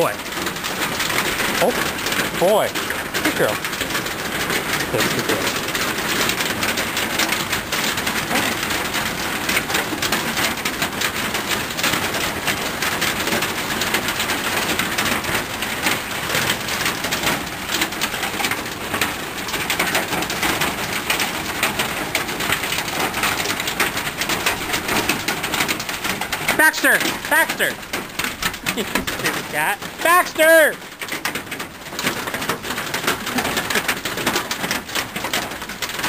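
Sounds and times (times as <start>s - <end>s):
hail and rain pelting down: 0.0s - 36.0s.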